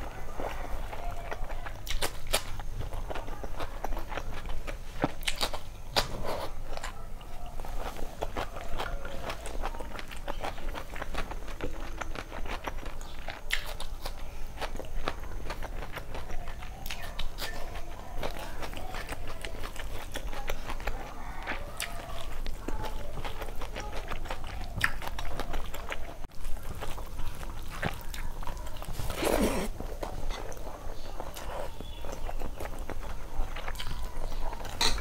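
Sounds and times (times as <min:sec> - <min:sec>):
wet chewing and lip smacking: 0:00.0 - 0:35.0.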